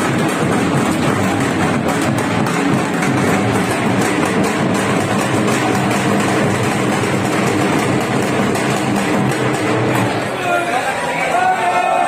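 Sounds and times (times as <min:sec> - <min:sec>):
music: 0:00.0 - 0:10.2
festival crowd din: 0:00.0 - 0:12.0.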